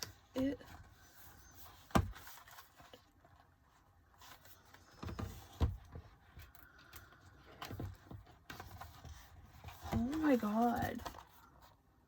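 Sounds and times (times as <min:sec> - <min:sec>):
paper pages rustling: 0:00.0 - 0:11.8.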